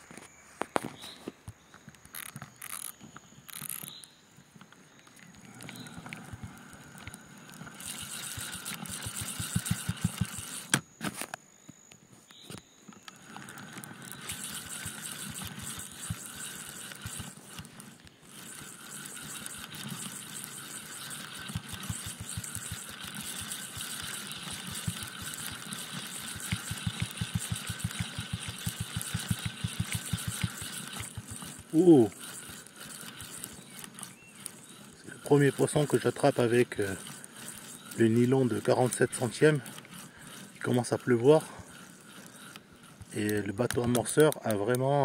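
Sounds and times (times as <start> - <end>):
fishing reel whirring and clicking: 1.8 - 11.4, 12.9 - 45.0.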